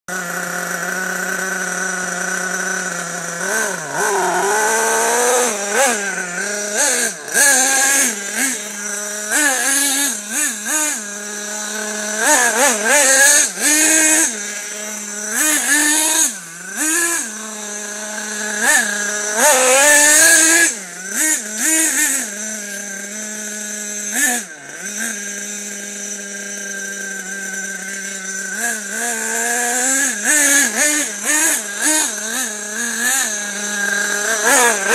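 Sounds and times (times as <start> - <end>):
small engine revving: 0.1 - 34.9.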